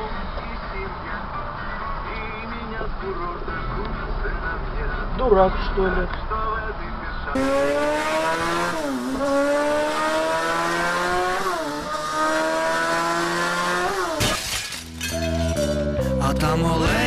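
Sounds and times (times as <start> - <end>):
vehicle engine accelerating: 0.0 - 14.2.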